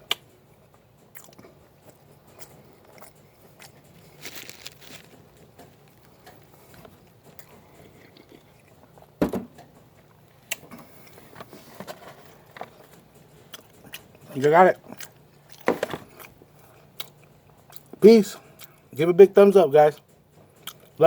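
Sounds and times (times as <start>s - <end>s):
person chewing food: 0.0s - 9.2s, 10.0s - 11.4s, 12.5s - 18.9s, 20.5s - 21.0s.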